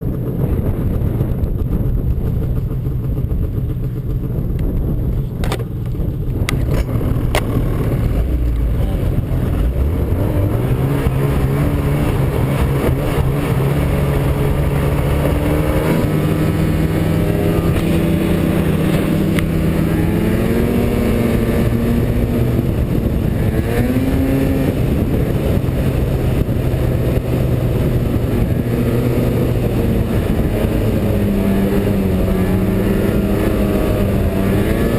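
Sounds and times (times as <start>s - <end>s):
snowmobile engine revving: 5.2s - 34.9s.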